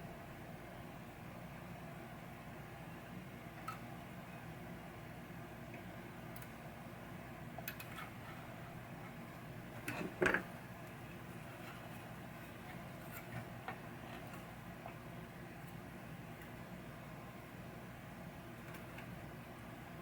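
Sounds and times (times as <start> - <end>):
low steady background hum: 0.0 - 20.0.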